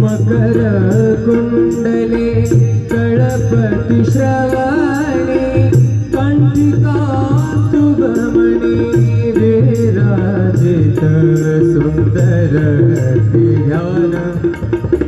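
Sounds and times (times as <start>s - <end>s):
drum and percussion beat: 0.0s - 15.0s.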